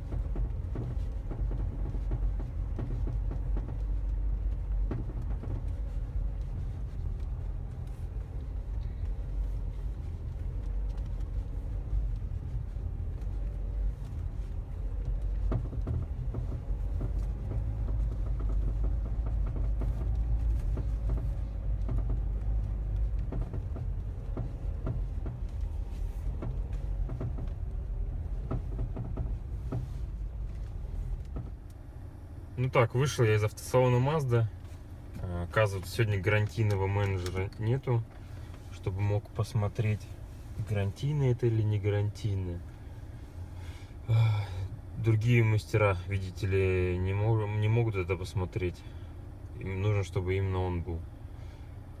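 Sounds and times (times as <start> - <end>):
knocks and rattles under car: 0.0 - 52.0
road and engine rumble: 0.0 - 52.0.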